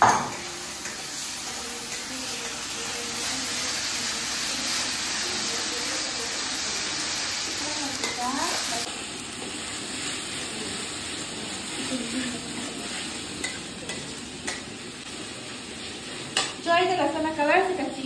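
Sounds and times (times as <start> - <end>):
food sizzling in pan: 0.0 - 18.0.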